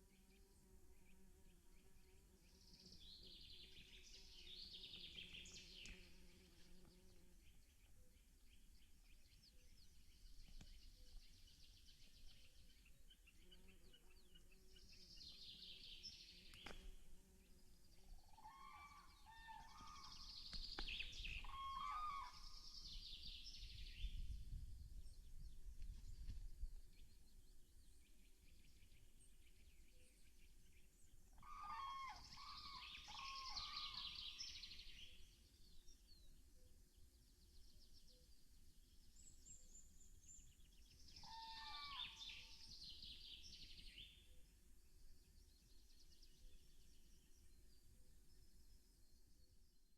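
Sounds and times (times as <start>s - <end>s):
songbird warbles and trills: 0.0s - 49.9s.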